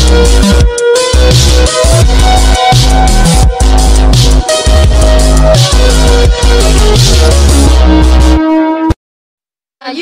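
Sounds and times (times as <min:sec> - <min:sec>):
electronic music with heavy bass: 0:00.0 - 0:09.0.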